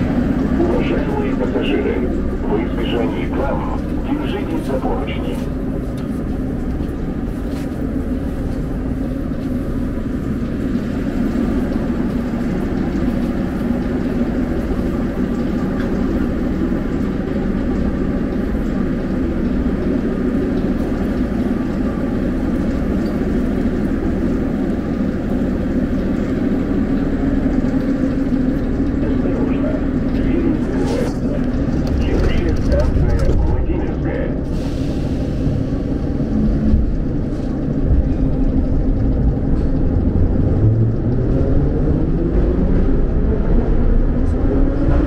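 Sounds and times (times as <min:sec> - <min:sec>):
metro train rumbling: 0:00.0 - 0:45.0.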